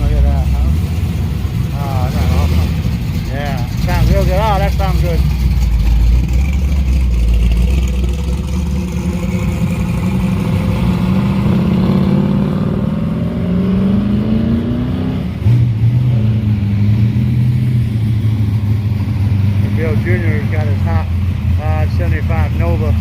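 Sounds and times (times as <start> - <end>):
car engine accelerating: 0.0 - 23.0
deep steady engine note: 0.0 - 23.0.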